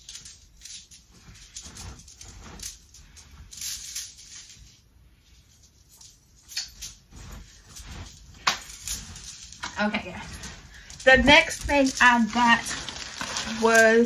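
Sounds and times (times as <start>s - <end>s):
clothing rustling: 0.0s - 14.0s
footsteps shuffling: 0.1s - 14.0s.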